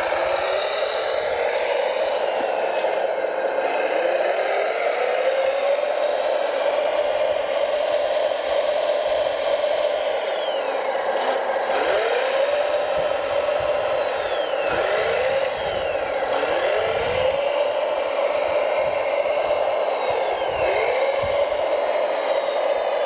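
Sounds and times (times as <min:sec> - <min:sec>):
higher whines gliding down: 0:00.0 - 0:23.0
toy motor whine: 0:00.0 - 0:23.0.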